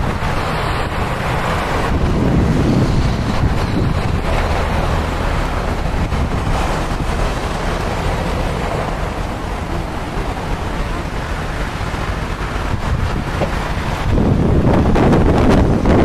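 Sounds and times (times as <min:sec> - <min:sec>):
wind blowing on microphone: 0:00.0 - 0:16.0.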